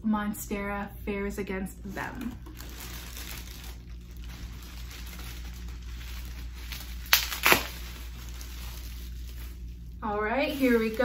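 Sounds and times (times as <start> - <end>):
plastic packaging crinkling: 2.2 - 11.0.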